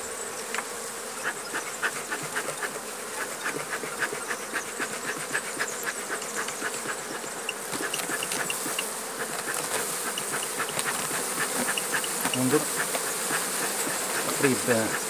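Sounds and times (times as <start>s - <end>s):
honeybees buzzing: 0.0s - 15.0s
small ticks: 0.4s - 15.0s.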